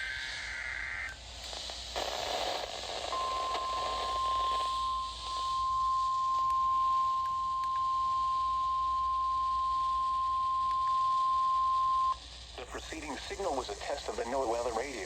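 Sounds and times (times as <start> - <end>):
faint radio hiss: 0.0 - 15.0.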